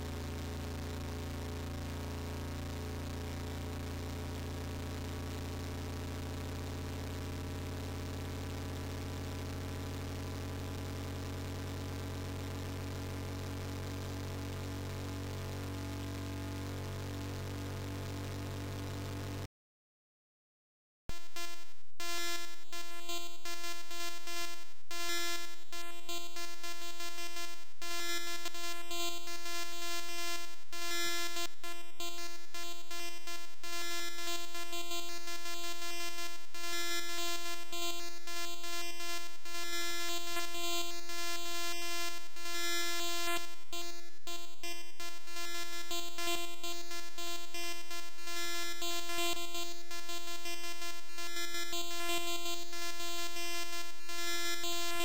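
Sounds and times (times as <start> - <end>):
buzzy eight-bit tone: 0.0 - 19.5, 21.1 - 55.0.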